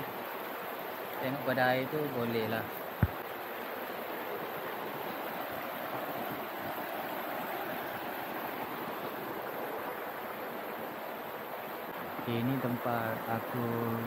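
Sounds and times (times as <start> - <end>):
river rushing over stones: 0.0 - 14.0.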